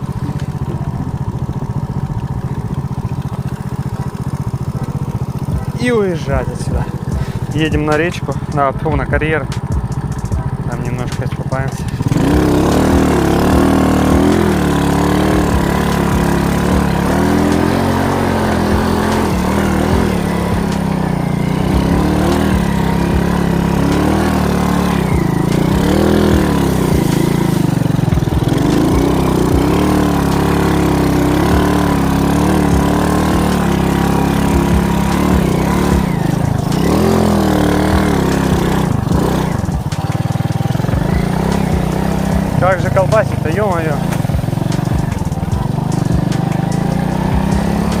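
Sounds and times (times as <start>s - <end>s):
moped engine running: 0.0s - 48.0s.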